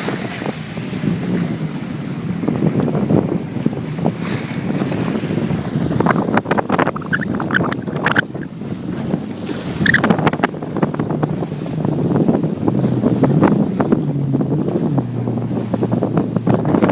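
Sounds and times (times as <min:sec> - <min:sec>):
jet ski engine running: 0:00.0 - 0:16.9
water slapping against hull: 0:00.0 - 0:16.9
wind buffeting microphone: 0:00.0 - 0:16.9.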